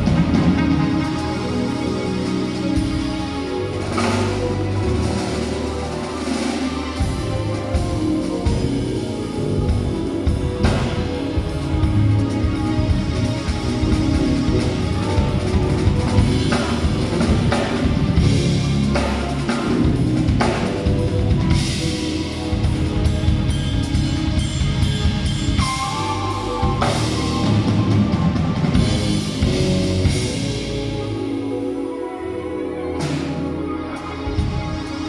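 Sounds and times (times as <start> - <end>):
drum kit: 0.0 - 32.0, 32.9 - 35.0
electric bass: 0.0 - 35.0
piano and keyboards: 0.0 - 35.0
trumpet: 0.0 - 35.0.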